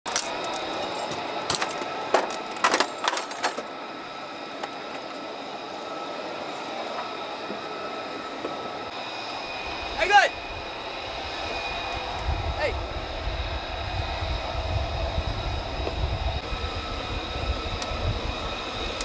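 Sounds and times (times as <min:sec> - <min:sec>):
mechanical drone: 0:00.1 - 0:19.0
thin high whines: 0:00.1 - 0:19.0.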